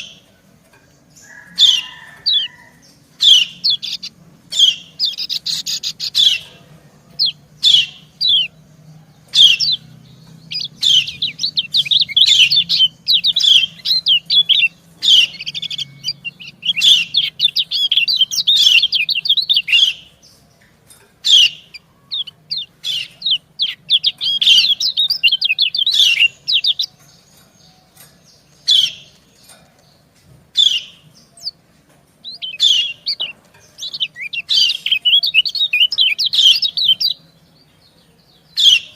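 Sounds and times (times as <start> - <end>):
bird song: 0.0 - 38.9
high bird chirps: 0.0 - 38.9.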